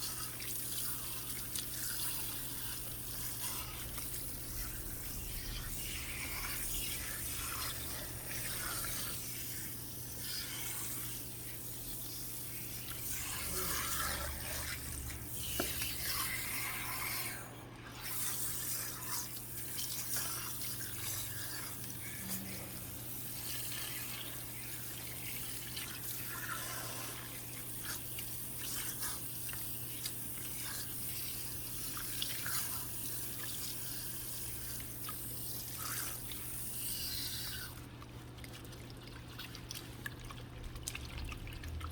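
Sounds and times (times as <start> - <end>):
tap water running: 0.0 - 17.4, 18.0 - 41.9.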